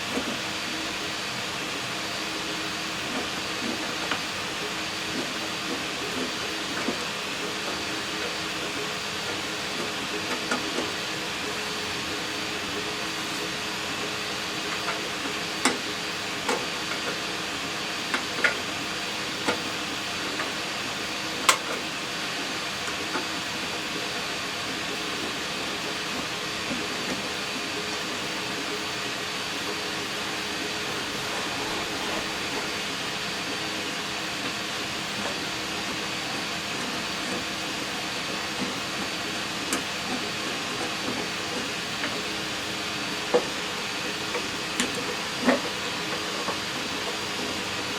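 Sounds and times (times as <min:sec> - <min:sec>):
machine hum and hiss: 0:00.0 - 0:47.9.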